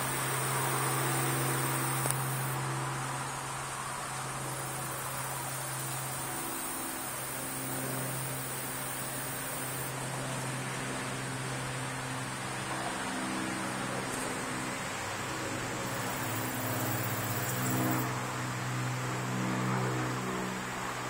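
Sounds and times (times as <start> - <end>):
background hum and hiss: 0.0 - 21.0.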